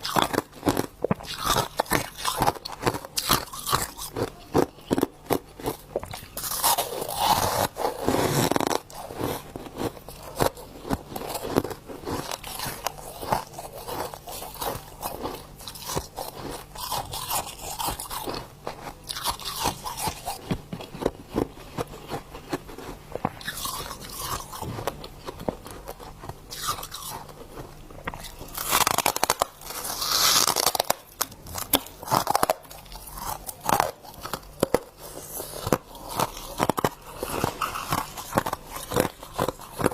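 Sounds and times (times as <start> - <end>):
person crunching frost: 0.0 - 39.9.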